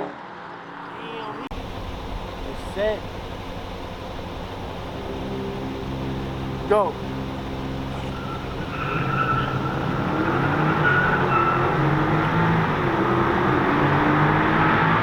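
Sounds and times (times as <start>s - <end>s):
car accelerating hard: 1.5s - 15.0s.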